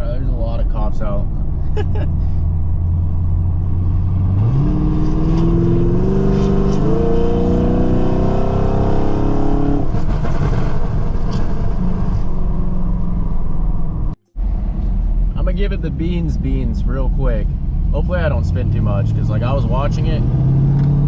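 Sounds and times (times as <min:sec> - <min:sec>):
car engine accelerating: 0:00.4 - 0:21.0.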